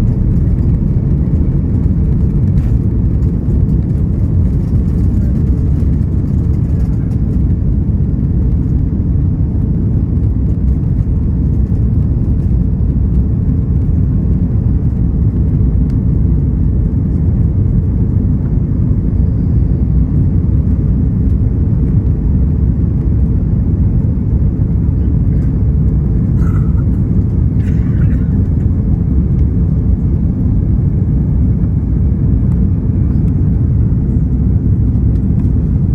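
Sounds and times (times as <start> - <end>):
airliner cabin low rumble: 0.0 - 35.9.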